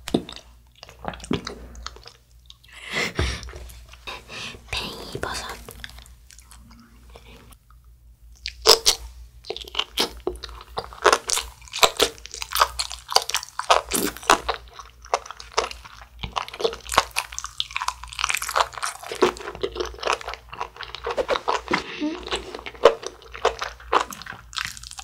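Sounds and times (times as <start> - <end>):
crunching and chewing food: 0.0 - 2.8, 5.2 - 25.0.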